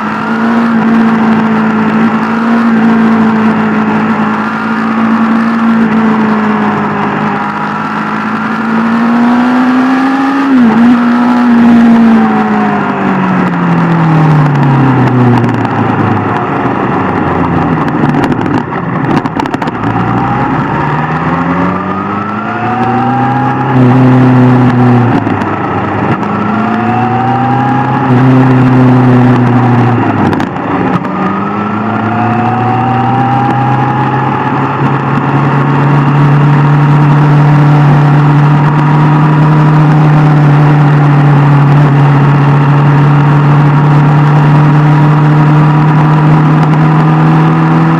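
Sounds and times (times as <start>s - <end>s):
motorcycle engine revving: 0.0s - 47.9s
rushing noise: 0.0s - 47.9s.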